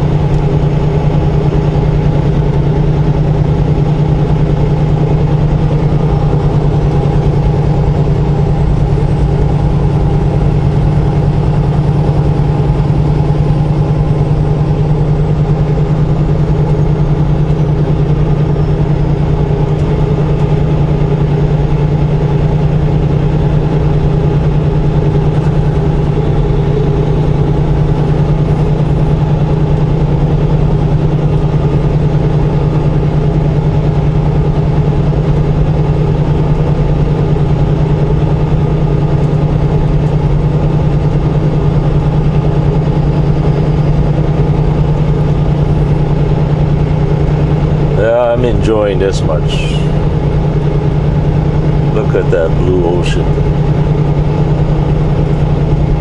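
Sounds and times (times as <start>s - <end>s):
road noise: 0.0s - 56.0s
truck diesel engine running: 0.0s - 56.0s.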